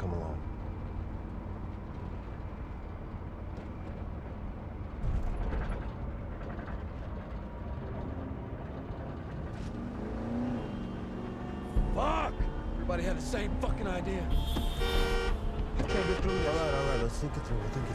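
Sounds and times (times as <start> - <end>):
car engine and road rumble: 0.0 - 17.9.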